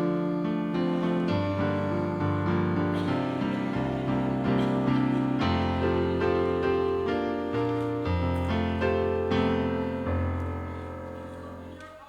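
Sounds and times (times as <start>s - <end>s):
piano playing slow chords: 0.0s - 12.0s.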